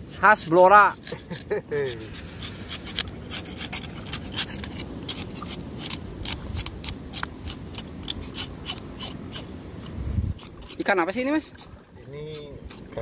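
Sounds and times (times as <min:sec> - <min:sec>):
knife scraping fish scales: 0:00.0 - 0:13.0.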